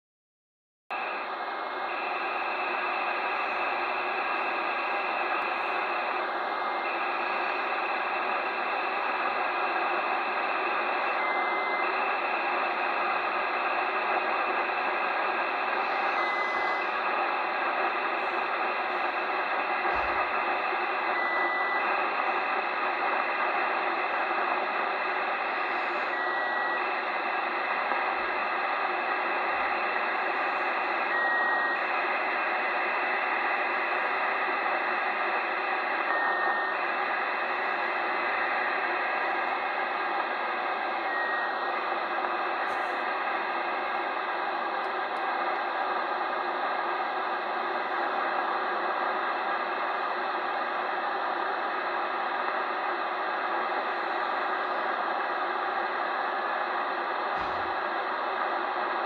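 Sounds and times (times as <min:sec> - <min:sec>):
brief radio tone: 0:00.9 - 0:50.7
rushing radio data signal: 0:00.9 - 0:59.0.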